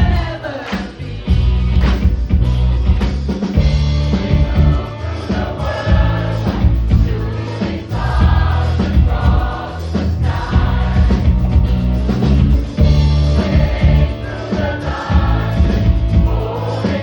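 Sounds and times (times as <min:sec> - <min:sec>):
bass line: 0:00.0 - 0:17.0
choir singing a rock song: 0:00.0 - 0:17.0
drums: 0:00.0 - 0:17.0.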